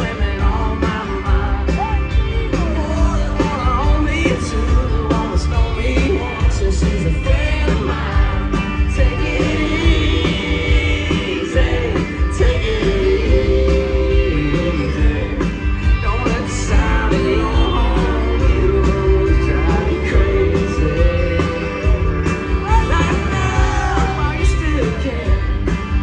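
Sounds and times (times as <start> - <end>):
live country-rock band: 0.0 - 26.0
male lead vocal: 0.0 - 26.0.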